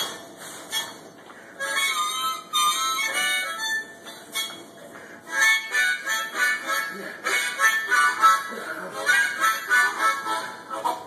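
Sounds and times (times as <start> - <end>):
solo harmonica playing: 1.6 - 11.0.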